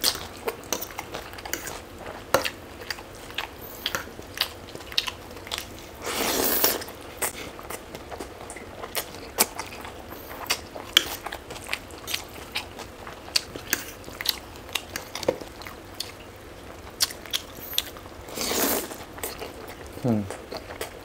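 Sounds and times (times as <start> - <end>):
chewing and biting food: 0.0 - 5.9, 6.6 - 16.2, 16.9 - 18.0, 19.0 - 21.0.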